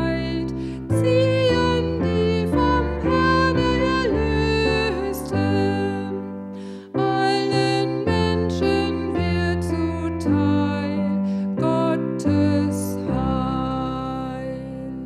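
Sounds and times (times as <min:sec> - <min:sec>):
piano playing slow hymn chords: 0:00.0 - 0:15.0.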